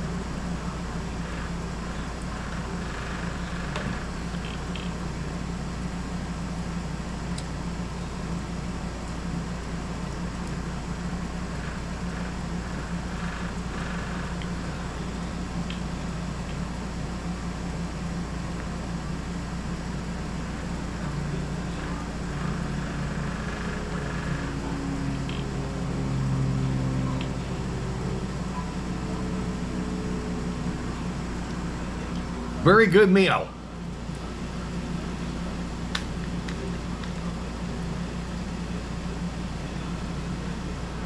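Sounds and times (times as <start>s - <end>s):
air conditioner humming: 0.0s - 41.0s.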